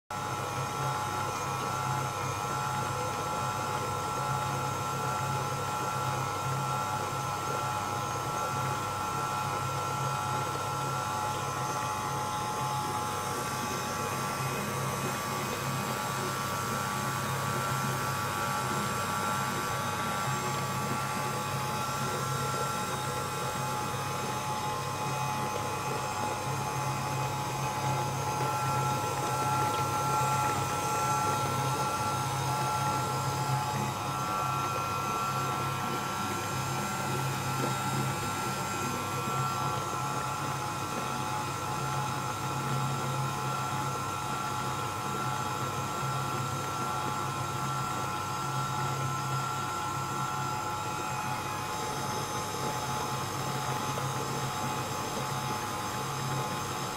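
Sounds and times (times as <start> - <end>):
stand mixer motor whining: 0.1 - 56.9.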